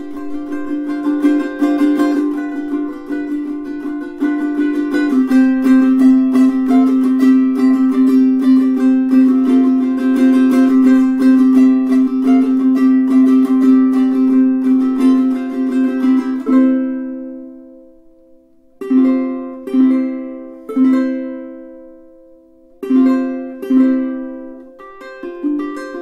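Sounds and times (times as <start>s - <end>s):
ukulele strumming: 0.0s - 26.0s.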